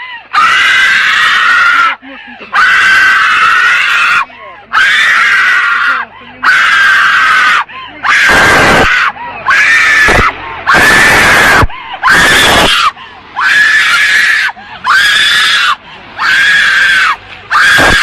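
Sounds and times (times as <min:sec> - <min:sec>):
woman screaming: 0:00.3 - 0:18.0.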